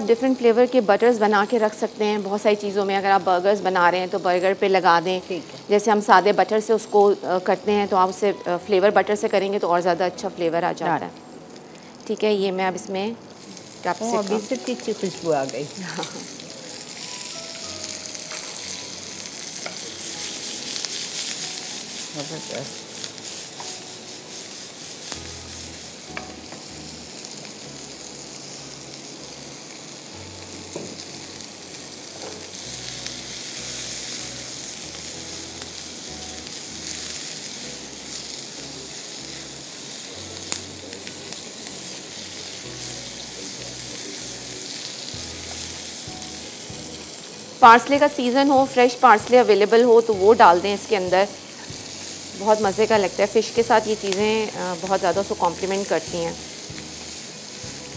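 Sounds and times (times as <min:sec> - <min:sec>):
vegetables sizzling in a frying pan: 0:00.0 - 0:57.9.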